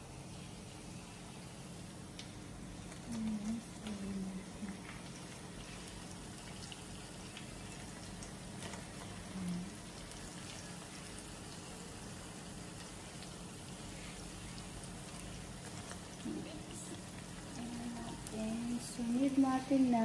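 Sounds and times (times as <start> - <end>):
bread sizzling in hot oil: 0.0 - 20.0.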